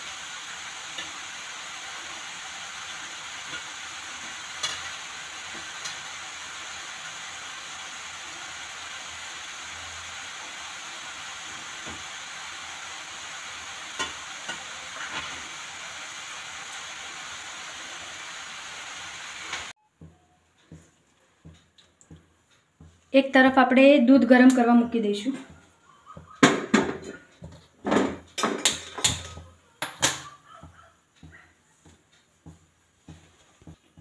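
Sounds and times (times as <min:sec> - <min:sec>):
carrot sizzling in a pan: 0:00.0 - 0:20.1, 0:21.4 - 0:34.0.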